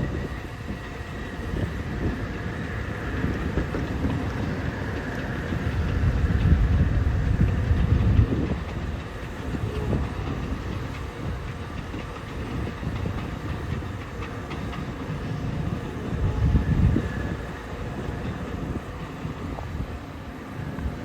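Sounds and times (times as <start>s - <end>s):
freight train rumbling past: 0.0s - 21.0s
train wheels clicking on rails: 0.0s - 21.0s.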